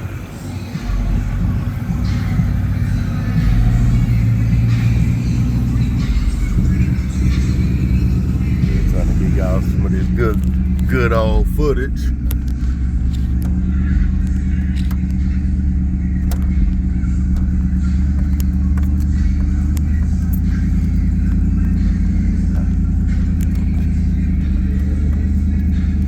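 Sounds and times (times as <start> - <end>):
vehicle engine and road drone: 0.0 - 26.0.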